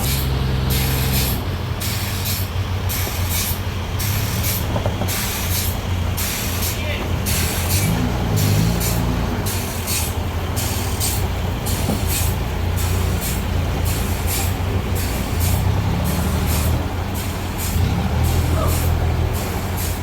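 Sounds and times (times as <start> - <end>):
sawmill engine hum: 0.0 - 20.0.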